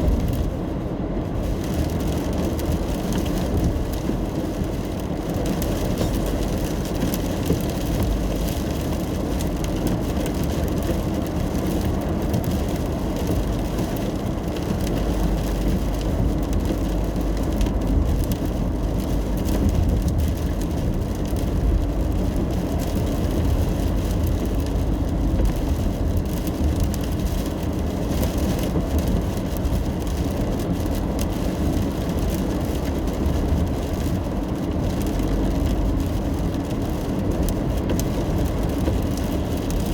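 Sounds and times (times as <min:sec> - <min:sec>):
rain pattering on car: 0:00.0 - 0:39.9
tyres and engine rumble: 0:00.0 - 0:39.9.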